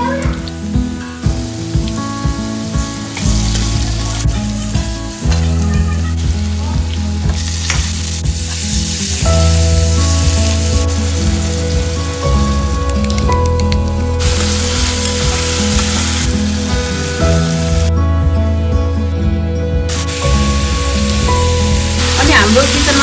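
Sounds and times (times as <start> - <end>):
potatoes sizzling in oil: 0.0 - 17.9, 19.9 - 23.0.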